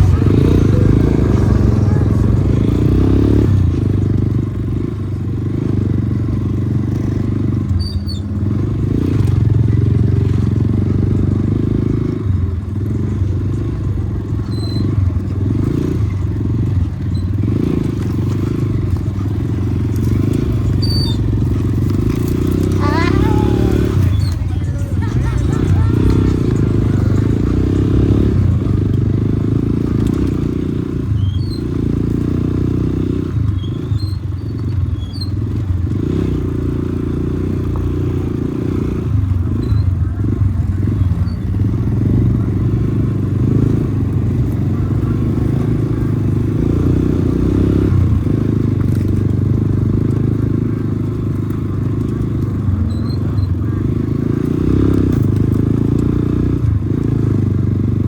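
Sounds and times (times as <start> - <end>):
off-road vehicle engine rumbling: 0.0 - 58.0.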